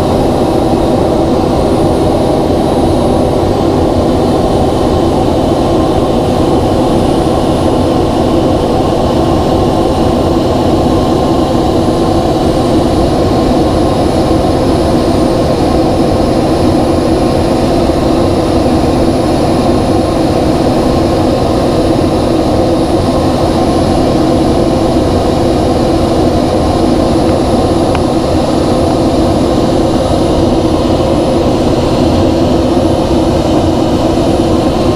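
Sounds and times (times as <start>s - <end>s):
airflow: 0.0s - 34.9s
jet engine drone in cockpit: 0.0s - 34.9s.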